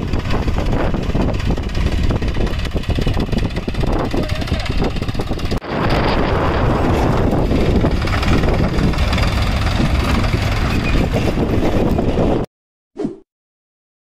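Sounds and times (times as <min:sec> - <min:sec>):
diesel tractor engine running: 0:00.0 - 0:12.4.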